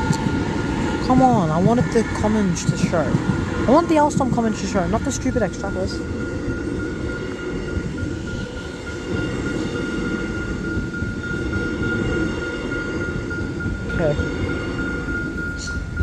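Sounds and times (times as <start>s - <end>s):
level crossing bells: 0.0s - 16.0s
train wheels rumbling on rail: 0.0s - 16.0s.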